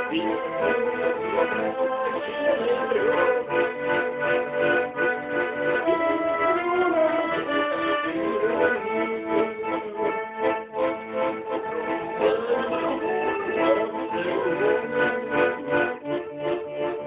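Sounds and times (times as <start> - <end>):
button accordion playing a tune: 0.0 - 17.0.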